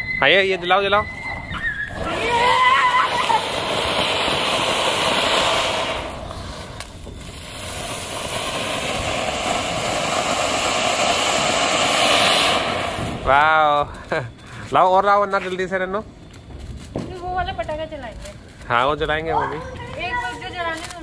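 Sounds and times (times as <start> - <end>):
firework fountains hissing: 0.0 - 21.0.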